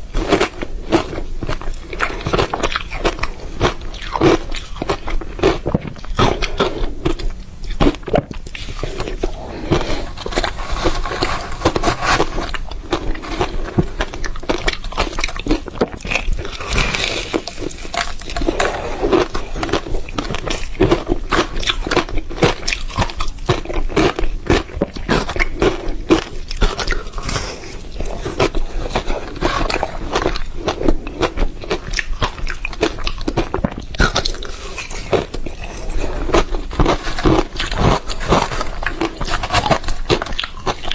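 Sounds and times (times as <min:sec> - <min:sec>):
ice crunching between teeth: 0:00.1 - 0:40.9.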